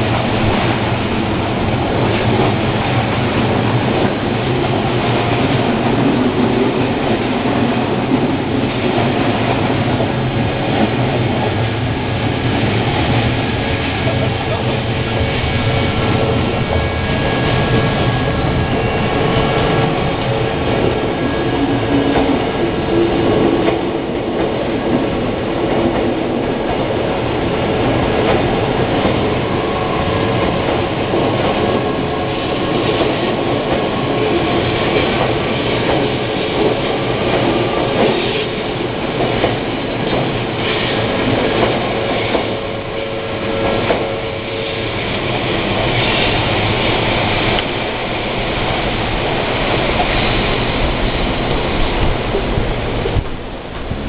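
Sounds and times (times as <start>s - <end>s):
electric train passing: 0.0s - 54.0s.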